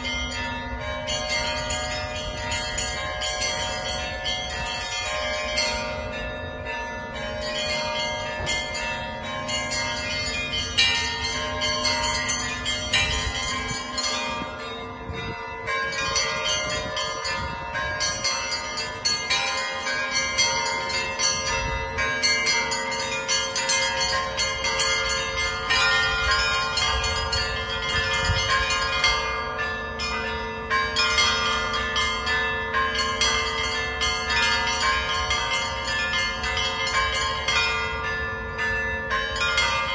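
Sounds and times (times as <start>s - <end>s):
large bells ringing: 0.0s - 39.9s.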